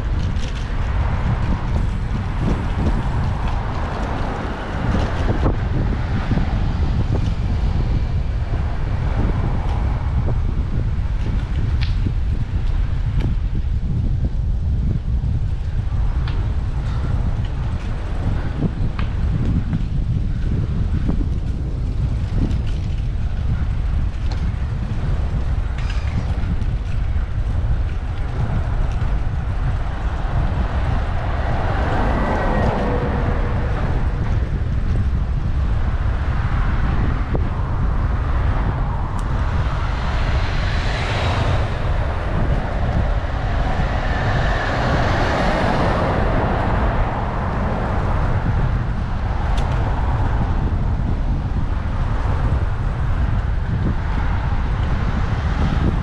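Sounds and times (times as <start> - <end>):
vehicles passing close by: 0.0 - 56.0
wind buffeting microphone: 0.0 - 56.0.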